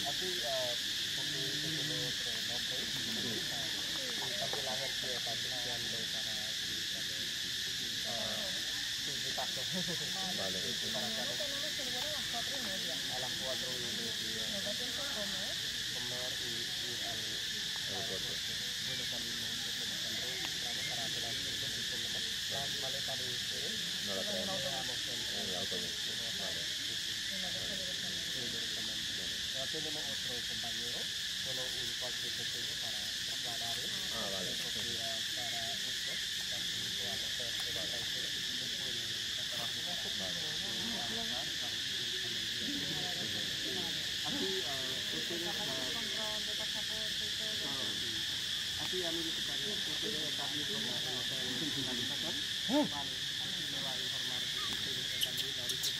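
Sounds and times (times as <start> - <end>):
faint low voices or calls: 0.0 - 55.9
forest insects droning: 0.0 - 55.9.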